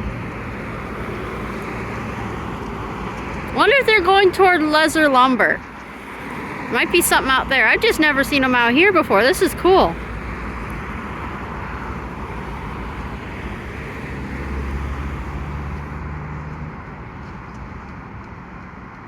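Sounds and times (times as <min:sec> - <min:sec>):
diesel locomotive engines droning: 0:00.0 - 0:19.0.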